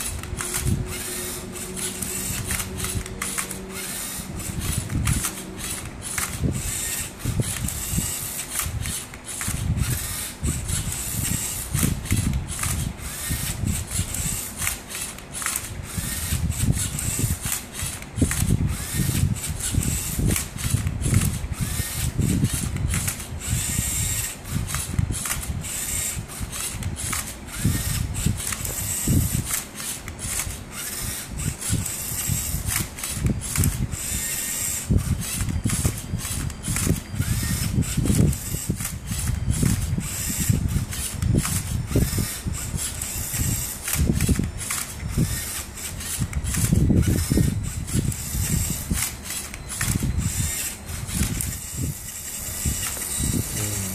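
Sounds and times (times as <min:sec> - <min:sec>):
plastic arm clattering: 0:00.0 - 0:53.5
robot motors whirring: 0:00.0 - 0:53.9.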